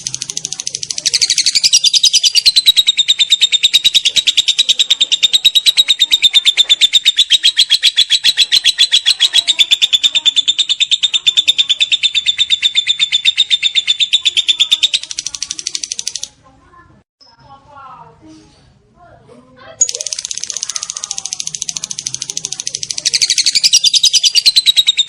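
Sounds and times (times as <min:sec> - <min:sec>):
bird chattering high chirps: 0:00.0 - 0:16.4, 0:19.8 - 0:25.0.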